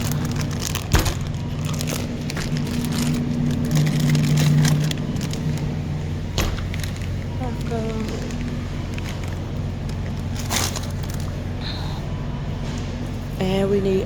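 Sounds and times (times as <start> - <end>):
supermarket low hum: 0.0 - 14.0.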